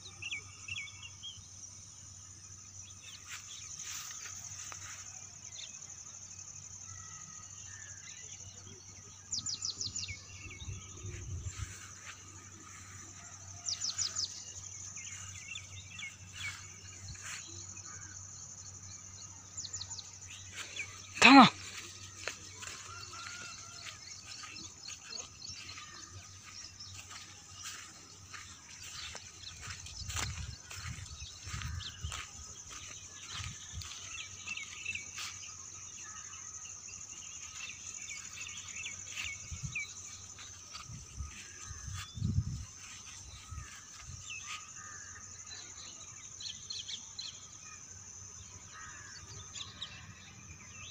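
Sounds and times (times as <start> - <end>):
birds twittering softly: 0.0 - 50.9
insects trilling: 0.0 - 50.9.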